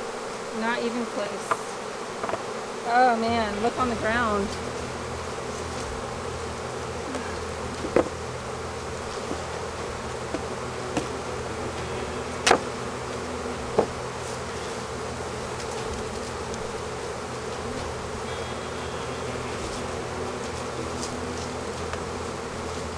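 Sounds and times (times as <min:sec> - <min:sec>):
honeybee colony buzzing: 0:00.0 - 0:22.9.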